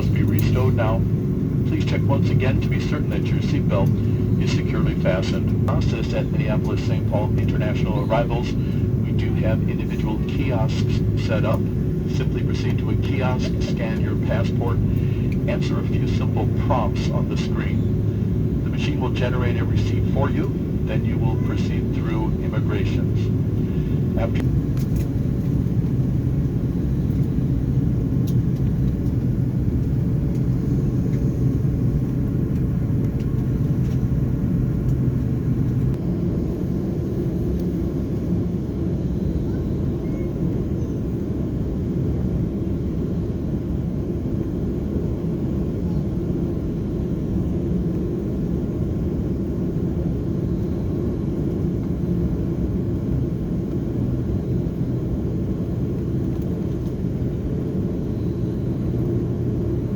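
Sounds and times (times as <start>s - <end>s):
airplane engine and airflow rumble: 0.0s - 59.9s.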